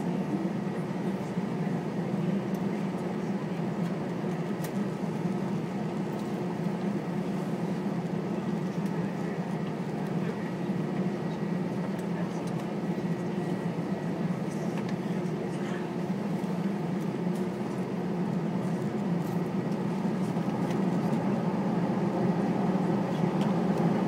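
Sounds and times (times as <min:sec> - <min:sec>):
airplane cabin hum: 0:00.0 - 0:24.0.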